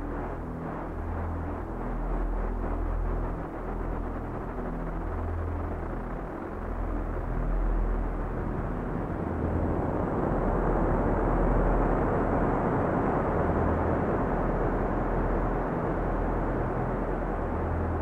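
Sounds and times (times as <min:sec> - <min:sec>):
filtered noise synth wash: 0:00.0 - 0:18.0.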